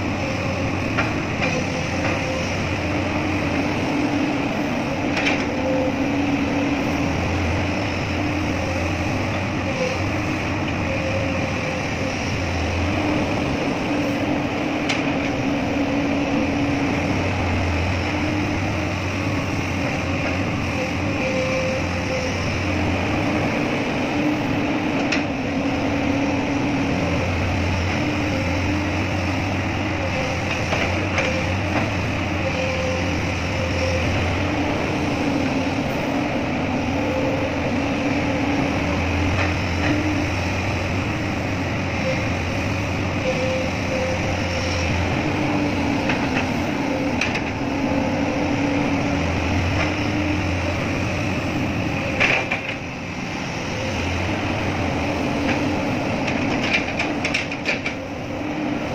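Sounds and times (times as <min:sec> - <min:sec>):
diesel engine humming: 0:00.0 - 0:58.9.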